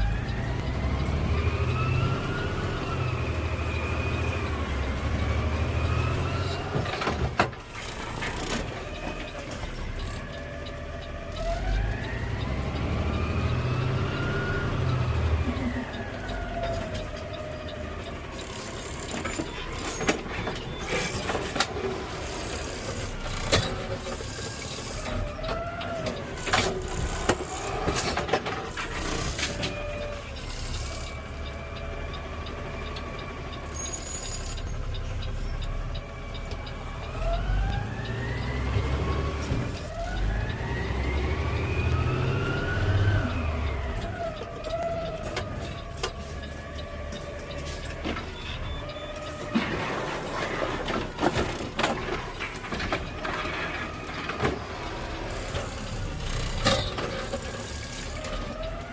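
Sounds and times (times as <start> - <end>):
garbage truck engine and hydraulic whine: 0.0 - 58.9.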